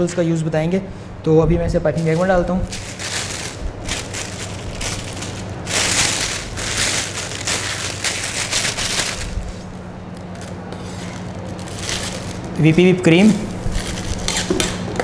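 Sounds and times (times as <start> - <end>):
plastic bag crinkling: 2.0 - 15.0.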